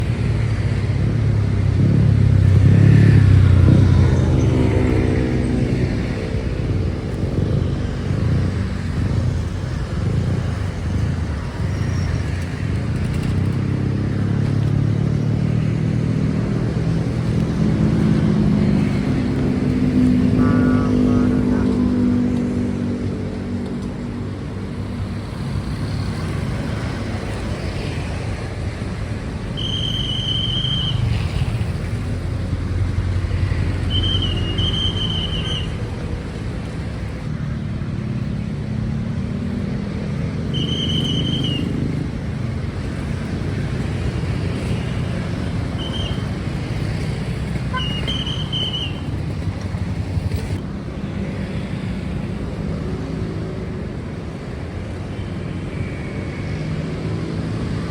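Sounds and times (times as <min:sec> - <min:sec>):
cars and motorcycles passing: 0:00.0 - 0:57.9.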